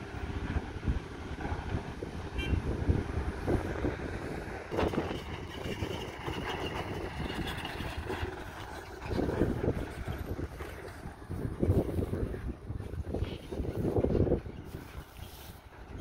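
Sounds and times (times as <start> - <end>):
diesel engines running: 0.0 - 16.0
wind buffeting microphone: 0.0 - 16.0.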